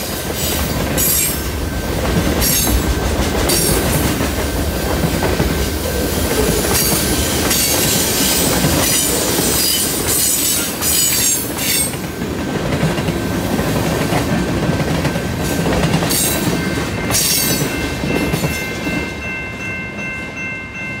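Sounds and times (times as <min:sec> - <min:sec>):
train wheels rumbling on rail: 0:00.0 - 0:20.5.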